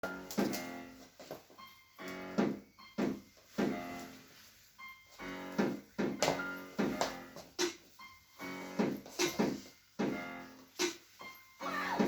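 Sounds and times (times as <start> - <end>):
piano-like keyboard music: 0.0 - 12.0.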